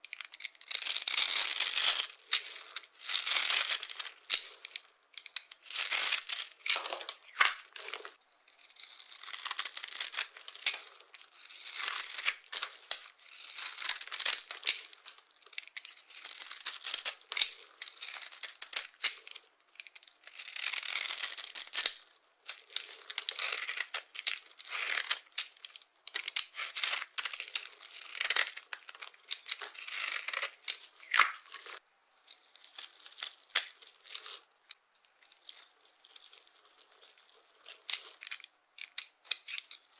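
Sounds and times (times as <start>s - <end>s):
dry soap crunching and crackling: 0.0s - 39.9s.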